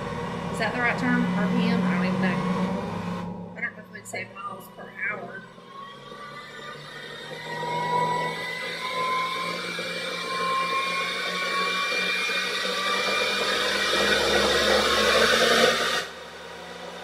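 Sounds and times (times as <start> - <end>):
stand mixer motor whine: 0.0 - 17.0.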